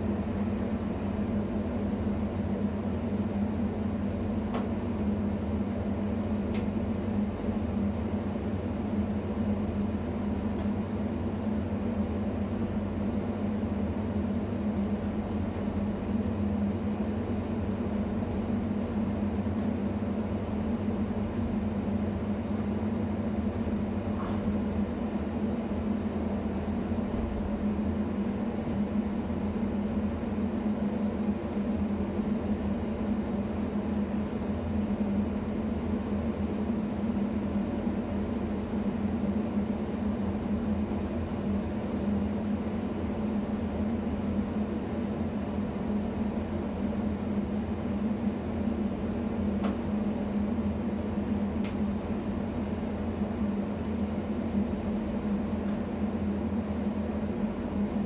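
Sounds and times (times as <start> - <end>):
stationary electric train humming: 0.0 - 58.0.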